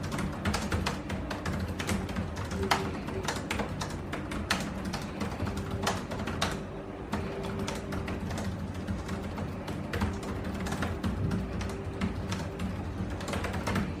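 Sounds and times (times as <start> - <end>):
fast typing on laptop keyboard: 0.0 - 14.0.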